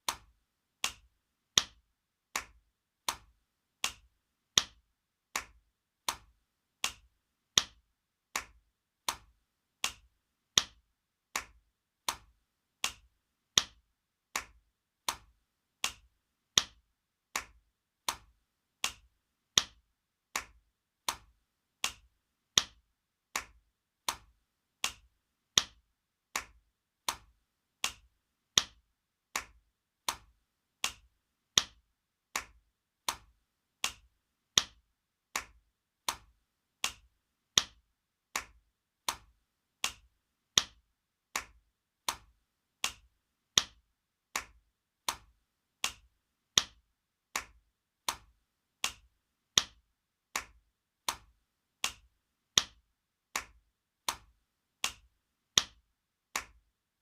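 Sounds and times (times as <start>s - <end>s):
hand slapping skin: 0.0s - 55.8s, 56.4s - 56.6s.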